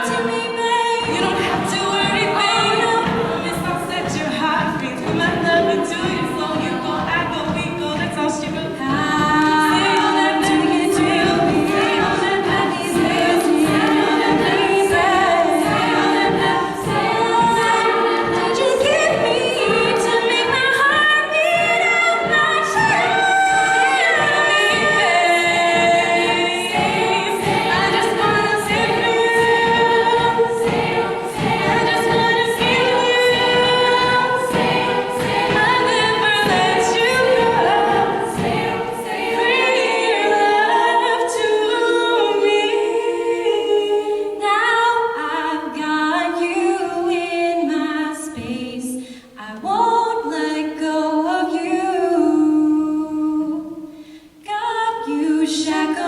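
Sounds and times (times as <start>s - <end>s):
women singing in close harmony: 0.0s - 56.0s.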